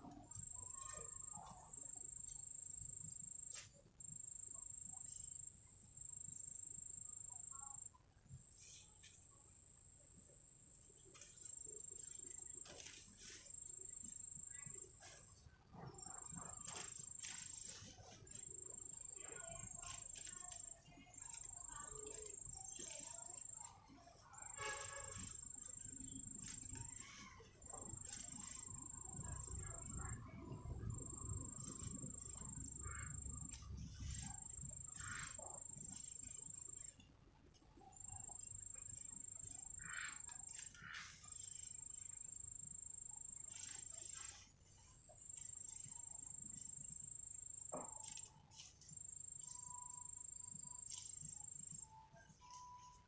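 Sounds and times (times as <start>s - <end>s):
insect trill: 0.0s - 37.1s, 37.8s - 53.0s
faint chirps: 0.0s - 53.0s.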